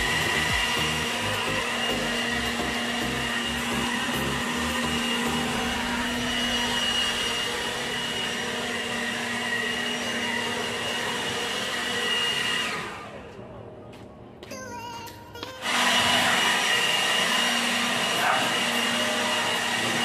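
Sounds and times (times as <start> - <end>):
leaf blower running: 0.0 - 13.4, 15.6 - 20.0.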